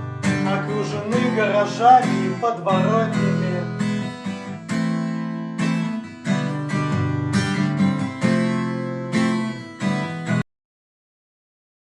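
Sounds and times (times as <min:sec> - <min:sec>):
acoustic guitar strumming chords: 0:00.0 - 0:10.4.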